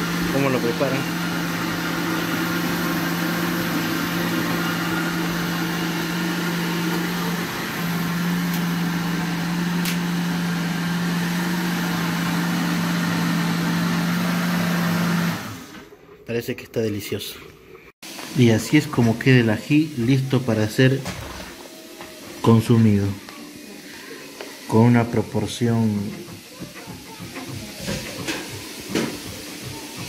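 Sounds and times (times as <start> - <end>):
blender motor running: 0.0 - 16.0, 18.1 - 30.0.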